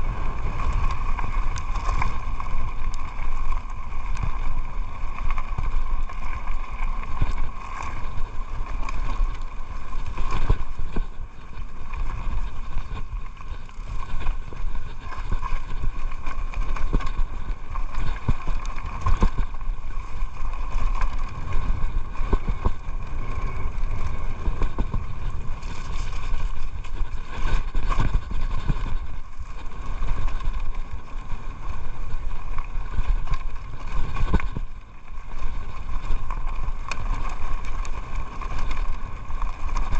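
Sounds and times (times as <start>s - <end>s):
bike rattling and knocking: 0.0s - 39.9s
tyres rolling on loose ground: 0.0s - 39.9s
wind rumbling on microphone: 0.0s - 39.9s.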